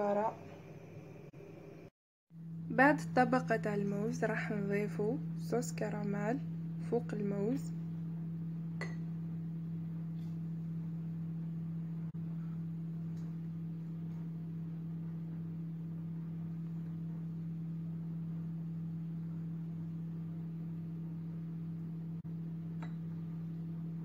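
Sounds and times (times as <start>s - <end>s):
deep steady hum: 0.0s - 24.0s.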